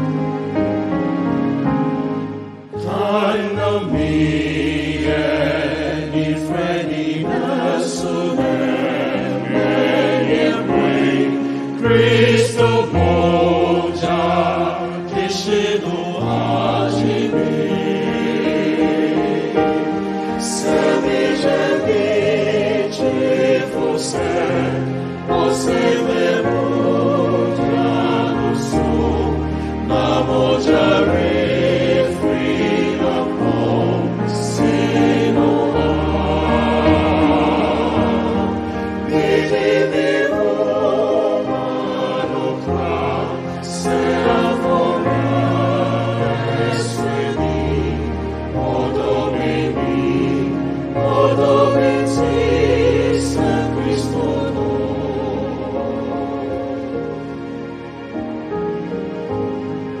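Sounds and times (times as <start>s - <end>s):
vocal group singing: 2.8s - 57.0s.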